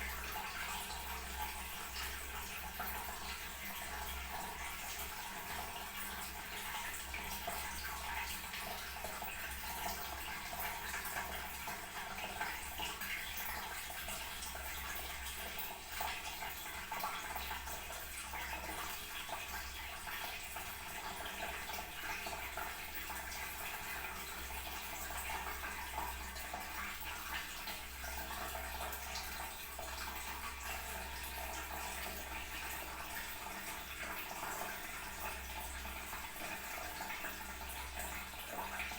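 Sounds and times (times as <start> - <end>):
toilet tank refilling: 0.0 - 38.9.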